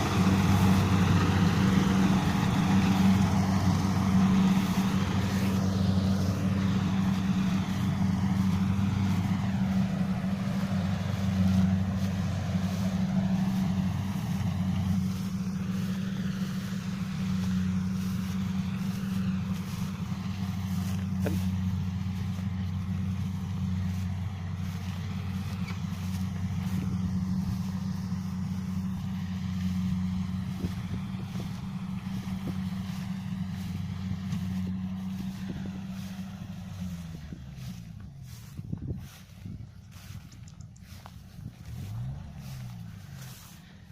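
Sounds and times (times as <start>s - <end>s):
harvester diesel engine droning: 0.0s - 43.9s.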